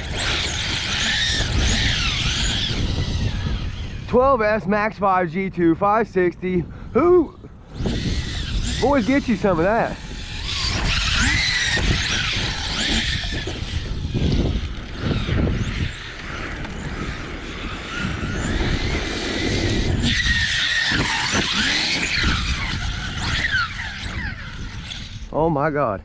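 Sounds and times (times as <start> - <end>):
electric motor whine: 0.0 - 4.5, 7.4 - 25.4
tyre and ground noise: 0.0 - 5.0, 7.0 - 25.5.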